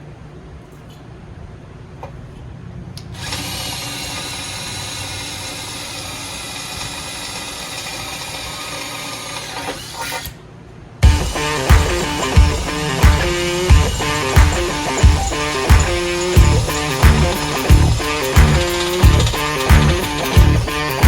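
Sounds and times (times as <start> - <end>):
power drill boring: 3.0 - 10.4, 11.0 - 21.0.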